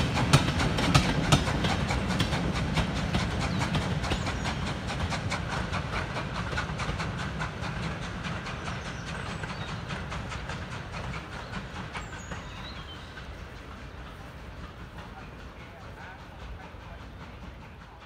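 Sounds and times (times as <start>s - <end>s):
low train rumble: 0.0s - 18.0s
train wheels clicking over rail joints: 0.0s - 18.0s.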